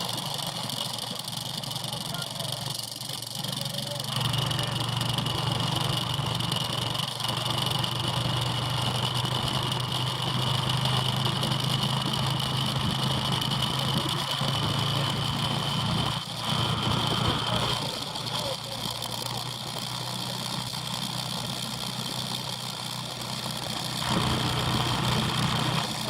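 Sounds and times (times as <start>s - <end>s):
motorbike engine drone: 0.0s - 26.0s.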